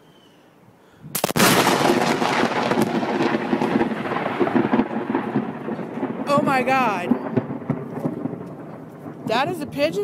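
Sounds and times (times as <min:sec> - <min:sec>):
sharp crack of thunder: 0:01.1 - 0:09.9
rolling thunder: 0:01.1 - 0:10.0.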